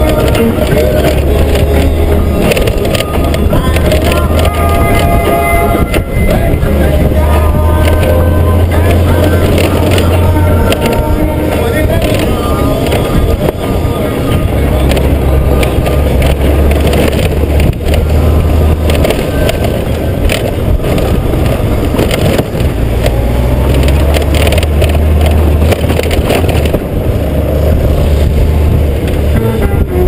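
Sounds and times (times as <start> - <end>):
motorcycle engine running: 0.0 - 30.0
tyres crunching over gravel: 0.0 - 30.0
wind buffeting microphone: 0.0 - 30.0.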